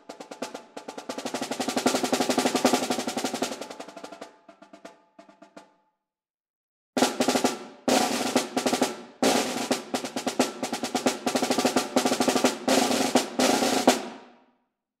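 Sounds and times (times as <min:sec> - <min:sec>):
snare drum rolls: 0:00.0 - 0:05.7, 0:07.0 - 0:14.4.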